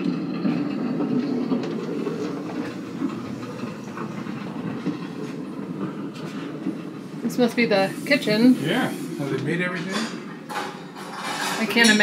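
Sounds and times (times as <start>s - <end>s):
rolling train rumble: 0.0s - 12.0s.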